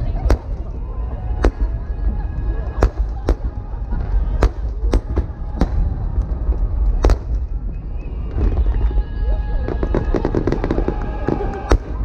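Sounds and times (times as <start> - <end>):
deep rumble: 0.0 - 12.0
fireworks crackling: 0.0 - 12.0.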